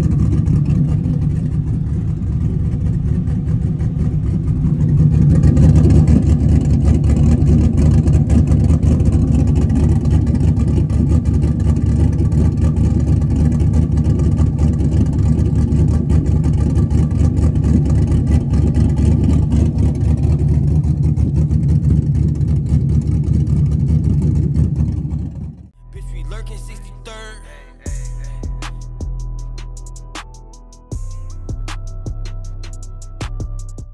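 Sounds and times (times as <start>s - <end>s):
engine exhaust running: 0.0s - 33.9s.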